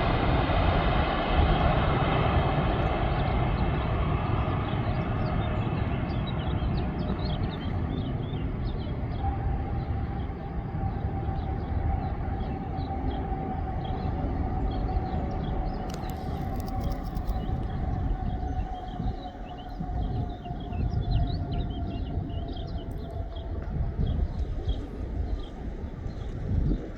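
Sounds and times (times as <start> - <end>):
jet engine rumble: 0.0 - 26.9
jet engine whine: 0.0 - 26.9.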